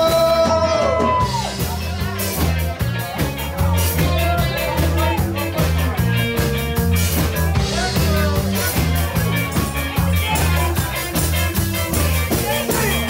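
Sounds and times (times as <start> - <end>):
bass line: 0.0 - 13.0
drum beats: 0.0 - 13.0
electric guitars: 0.0 - 13.0.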